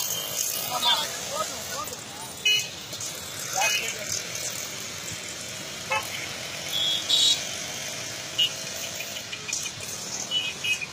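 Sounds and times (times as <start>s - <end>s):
city road traffic: 0.0s - 10.9s.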